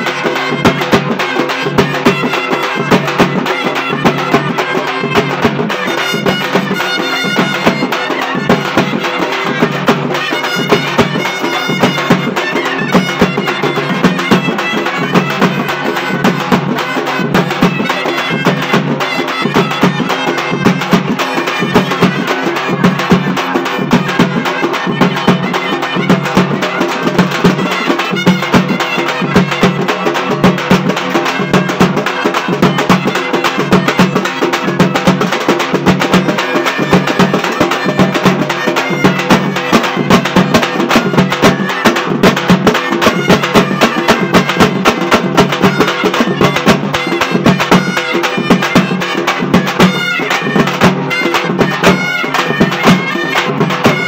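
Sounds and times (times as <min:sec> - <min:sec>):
drums beating: 0:00.0 - 0:54.0
reedy wind instrument melody: 0:00.0 - 0:54.0.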